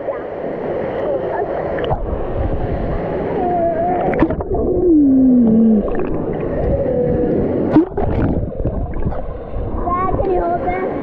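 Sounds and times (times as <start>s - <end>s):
muffled rushing water: 0.0s - 11.0s.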